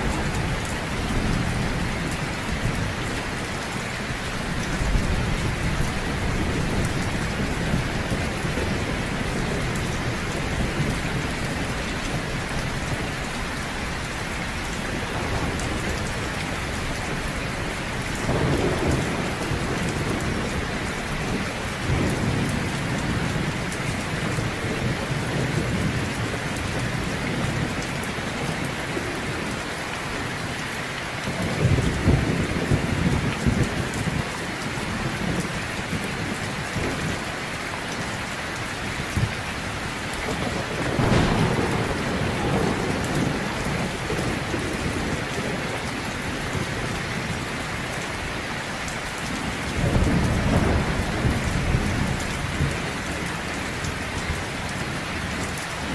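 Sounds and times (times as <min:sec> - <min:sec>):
thunder rumbling: 0:00.0 - 0:48.4, 0:49.2 - 0:55.9
heavy rain falling: 0:00.0 - 0:55.9.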